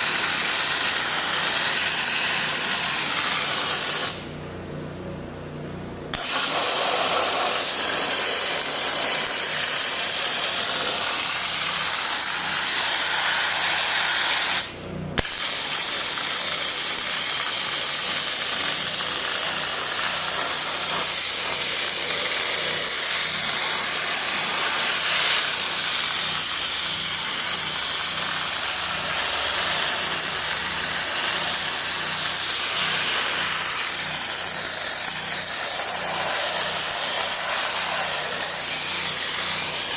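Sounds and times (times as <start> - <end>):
dry ice blasting gun hissing: 0.0 - 4.3, 6.1 - 39.9.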